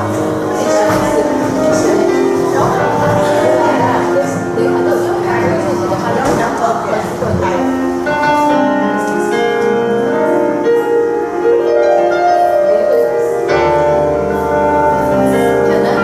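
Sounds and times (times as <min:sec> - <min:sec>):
slow piano improvisation: 0:00.0 - 0:16.0.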